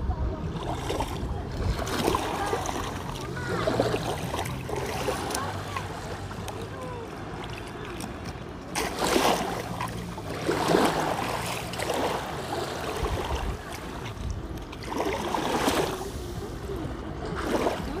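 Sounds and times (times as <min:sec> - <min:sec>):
waves washing onto a beach: 0:00.0 - 0:18.0.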